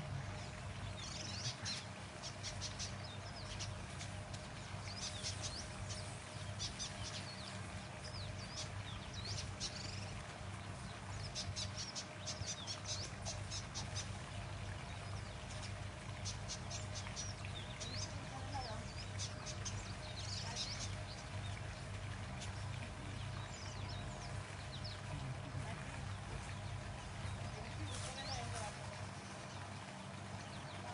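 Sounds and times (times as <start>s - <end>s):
birds chirping: 0.0s - 30.9s
steady low hum: 0.0s - 30.9s.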